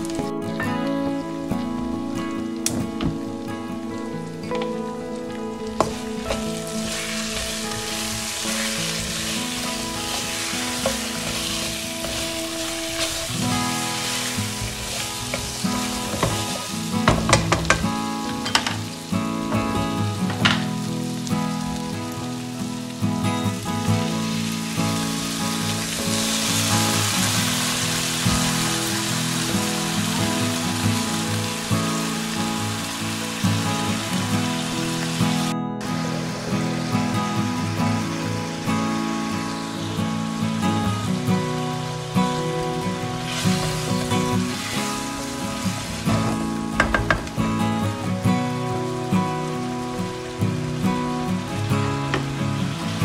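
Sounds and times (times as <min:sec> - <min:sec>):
background music: 0:00.0 - 0:53.0
potatoes sizzling in oil: 0:00.0 - 0:53.0.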